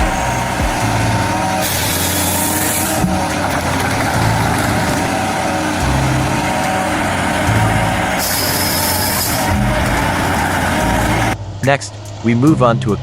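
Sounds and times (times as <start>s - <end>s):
harvester engine running: 0.0s - 13.0s.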